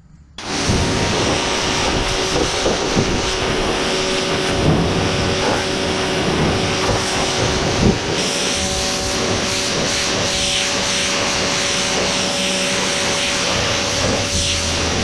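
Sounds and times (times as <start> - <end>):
pressure washer spraying metal: 0.4 - 15.0.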